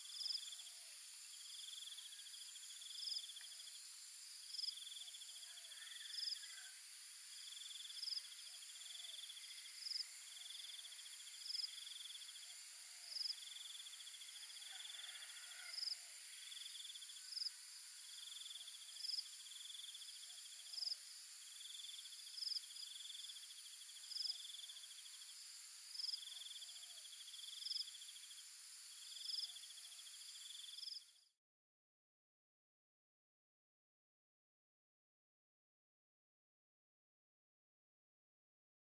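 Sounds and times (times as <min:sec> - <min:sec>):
insect trilling call: 0:00.0 - 0:31.2
insect high drone: 0:00.0 - 0:31.3
insect short sharp chirp: 0:00.0 - 0:31.3.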